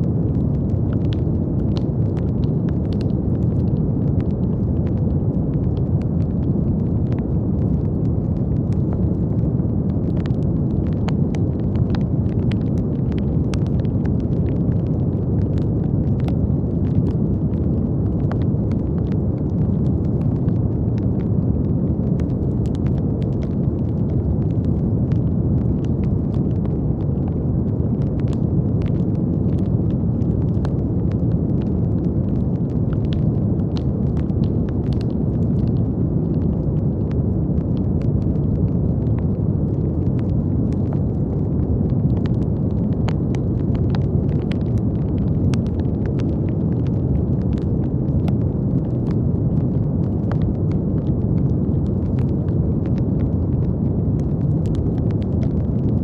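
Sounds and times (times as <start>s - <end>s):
brown noise hiss: 0.0s - 56.0s
faint crackling clicks: 0.2s - 56.0s.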